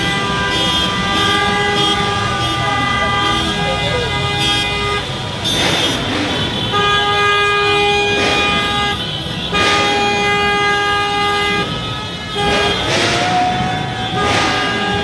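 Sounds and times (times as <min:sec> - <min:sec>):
car horns honking: 0:00.0 - 0:15.0.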